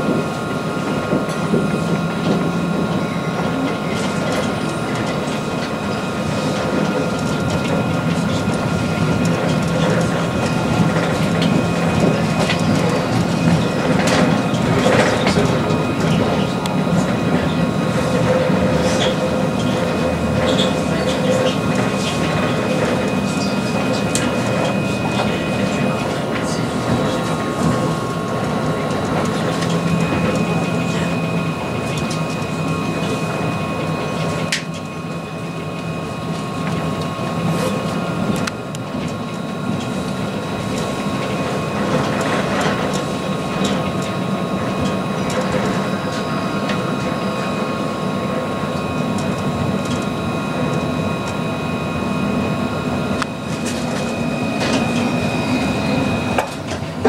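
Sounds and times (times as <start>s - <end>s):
tram electric drive whine: 0.0s - 57.0s
tram running noise: 0.0s - 57.0s.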